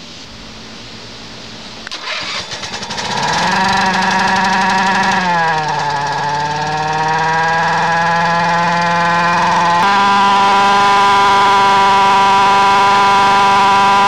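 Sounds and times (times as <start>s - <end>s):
small gas engine starting and running: 1.8s - 14.0s.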